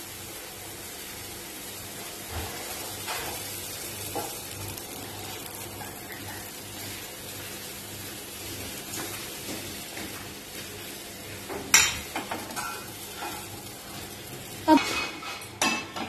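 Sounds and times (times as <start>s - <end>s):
batter sizzling in frying pan: 0.0s - 16.0s.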